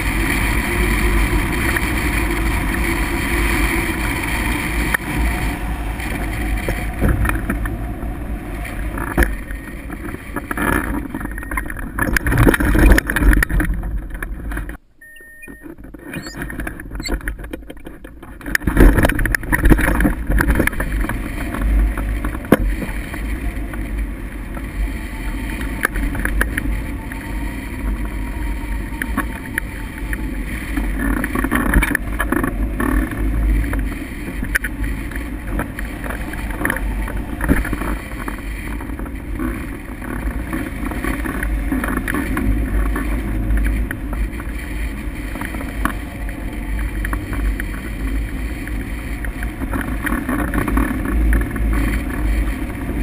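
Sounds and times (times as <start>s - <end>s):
wind buffeting camera: 0.0s - 14.9s, 15.5s - 53.0s.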